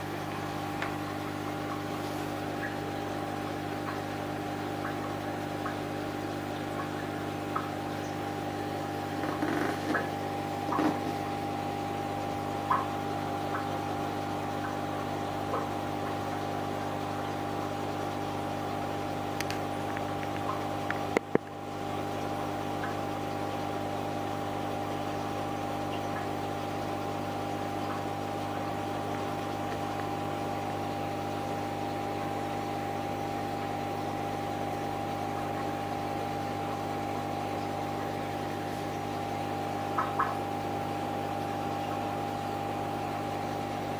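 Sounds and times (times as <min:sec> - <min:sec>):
aquarium equipment humming: 0:00.0 - 0:43.9.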